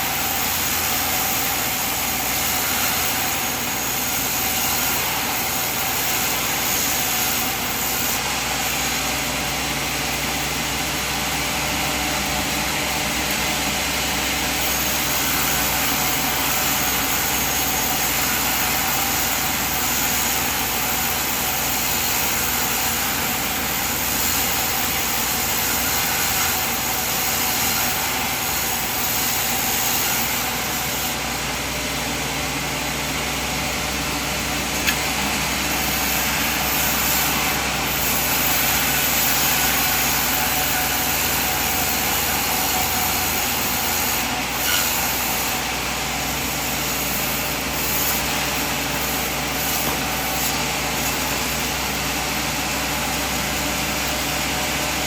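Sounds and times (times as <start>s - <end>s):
sawmill machine running: 0.0s - 55.0s.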